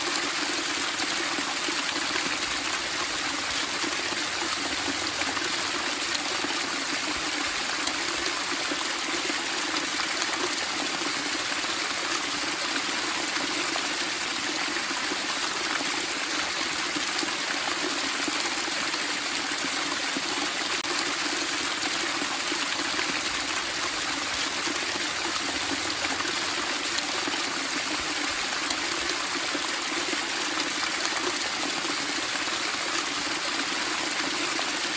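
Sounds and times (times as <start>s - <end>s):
water babbling and splashing: 0.0s - 34.9s.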